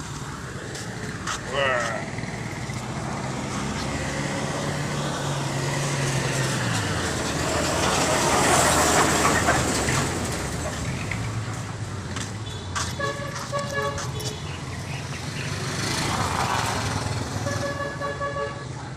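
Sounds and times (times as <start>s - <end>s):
road noise: 0.0s - 18.9s
vehicle engine humming: 0.0s - 18.9s.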